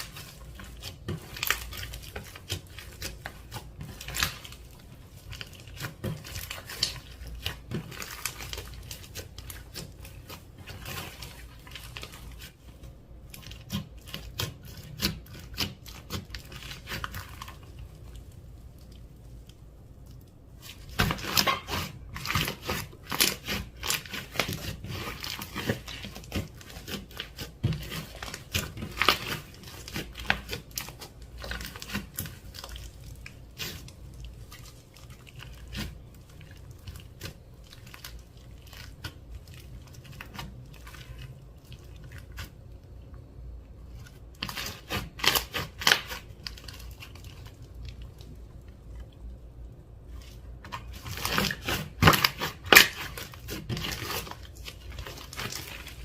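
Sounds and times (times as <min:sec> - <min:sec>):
slime squished by hand: 0:00.0 - 0:43.2, 0:43.8 - 0:56.0.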